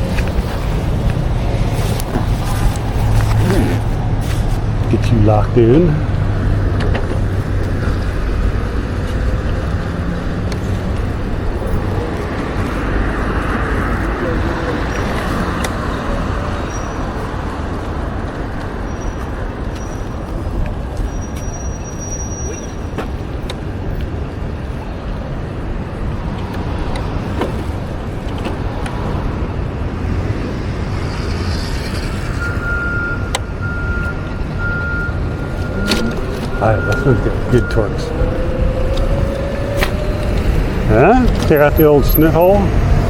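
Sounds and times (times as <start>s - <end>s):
passing vehicles rumble: 0.0s - 43.0s.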